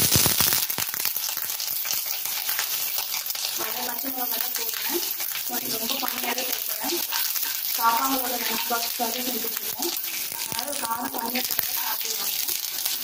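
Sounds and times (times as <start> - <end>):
spices sizzling and popping in oil: 0.0 - 13.0.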